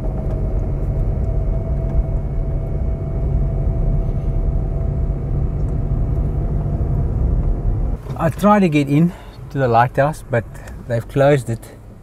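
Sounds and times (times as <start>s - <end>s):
car driving on dirt road: 0.0s - 12.0s
faint steady whine: 0.0s - 12.0s.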